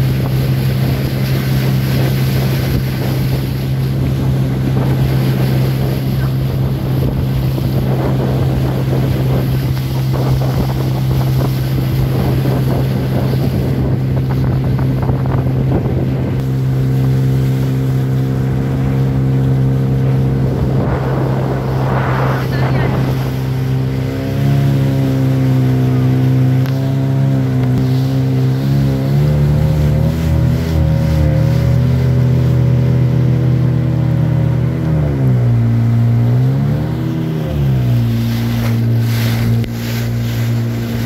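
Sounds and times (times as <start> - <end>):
motorboat engine running: 0.0 - 41.0
wind rushing over microphone: 0.0 - 41.0.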